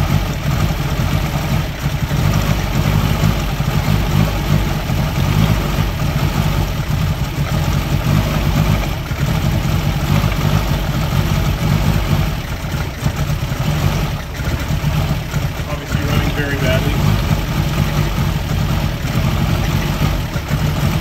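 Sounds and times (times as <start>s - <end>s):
car engine idling unevenly: 0.0s - 21.0s.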